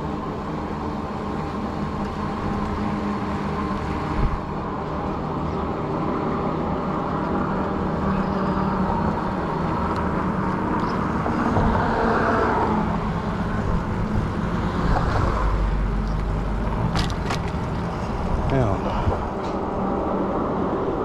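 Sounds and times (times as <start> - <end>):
electric bike motor hum: 0.0 - 21.0
wind rumbling on microphone: 0.0 - 21.0.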